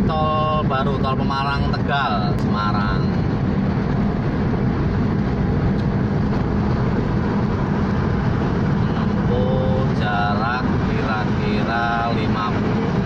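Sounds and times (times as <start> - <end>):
low engine hum: 0.0 - 13.0
tyres rushing on road: 0.0 - 13.0.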